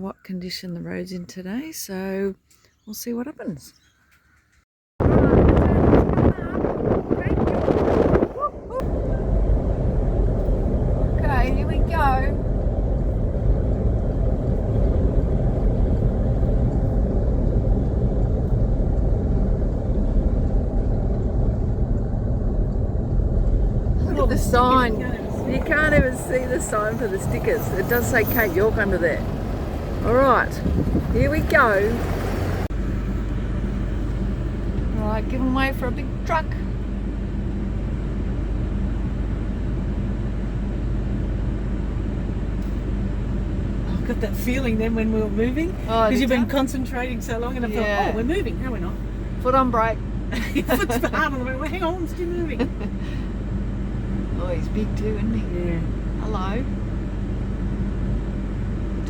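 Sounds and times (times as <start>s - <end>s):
low rumble of engine and tyres: 0.0s - 59.0s.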